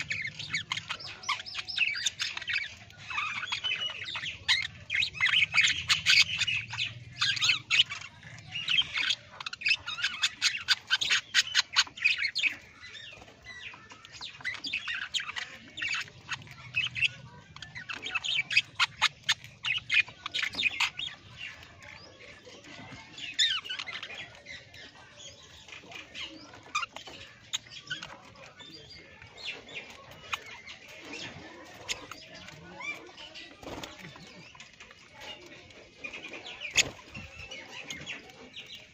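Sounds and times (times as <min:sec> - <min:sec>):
parrots squawking and chirping: 0:00.0 - 0:38.9.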